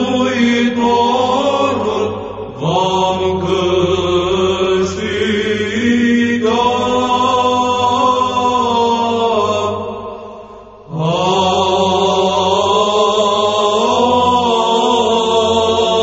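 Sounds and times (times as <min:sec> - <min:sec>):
church chant singing: 0:00.0 - 0:16.0
low vocal drone: 0:00.0 - 0:16.0.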